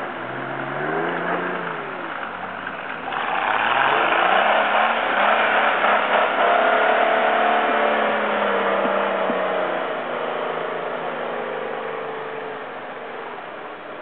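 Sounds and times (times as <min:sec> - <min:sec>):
off-road vehicle engines revving: 0:00.0 - 0:14.0.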